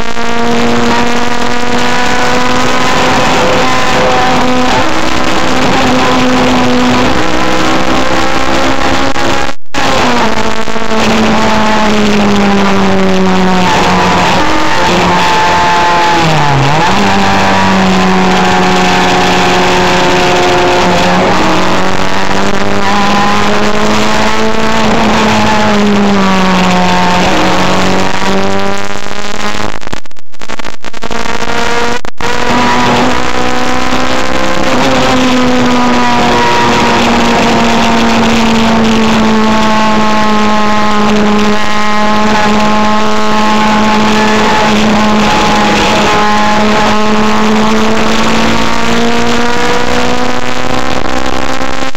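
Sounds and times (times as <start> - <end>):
car engine at high revs: 0.0 - 51.9.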